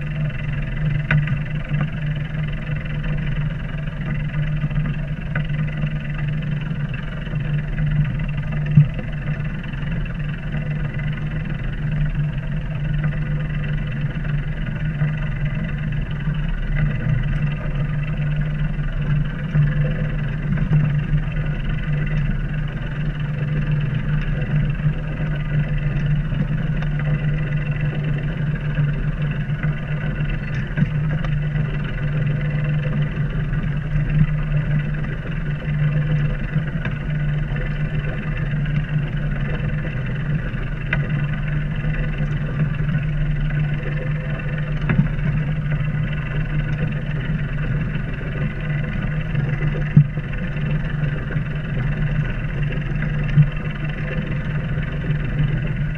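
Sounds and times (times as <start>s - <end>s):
boat engine humming: 0.0s - 55.9s.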